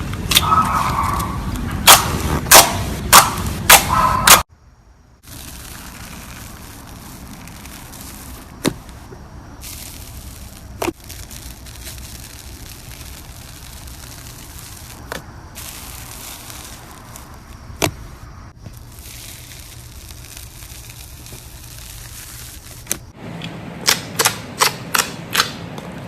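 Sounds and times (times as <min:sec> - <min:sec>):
sharp pops: 0:00.1 - 0:04.5, 0:05.3 - 0:23.2.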